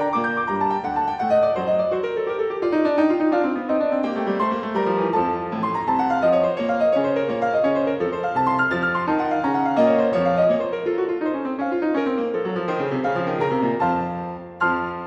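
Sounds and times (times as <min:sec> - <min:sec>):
piano music with running notes: 0:00.0 - 0:15.0.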